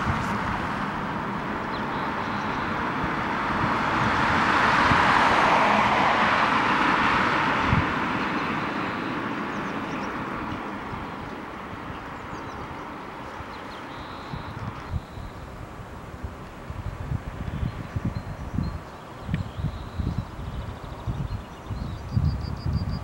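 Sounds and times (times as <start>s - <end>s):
car passing on asphalt: 0.0s - 21.7s.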